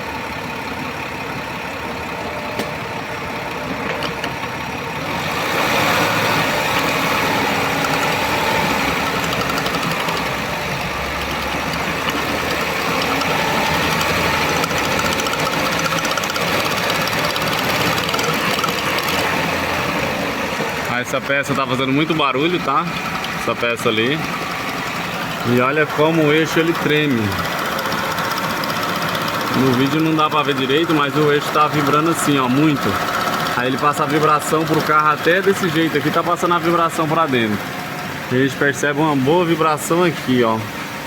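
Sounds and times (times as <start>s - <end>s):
car engine running: 0.0s - 41.0s.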